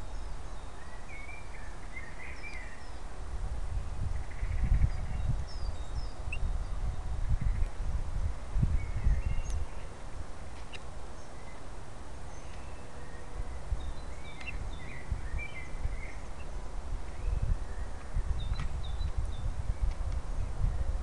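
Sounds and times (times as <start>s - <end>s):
small birds chirping: 0.0s - 3.2s, 4.0s - 20.9s.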